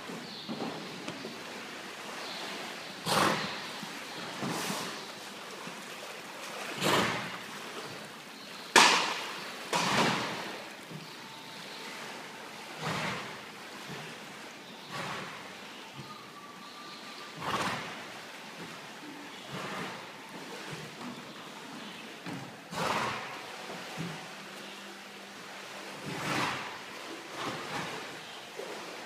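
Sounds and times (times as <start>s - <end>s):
animal swimming in pool water: 0.0s - 29.0s.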